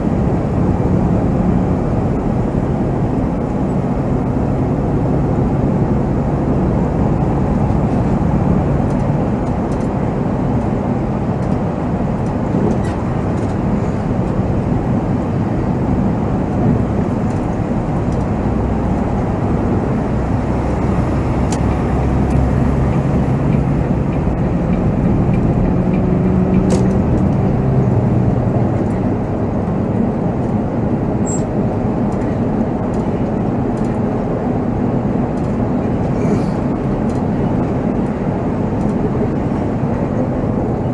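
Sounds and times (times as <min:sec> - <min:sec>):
diesel engine drone: 0:00.0 - 0:40.9
road noise: 0:00.0 - 0:40.9.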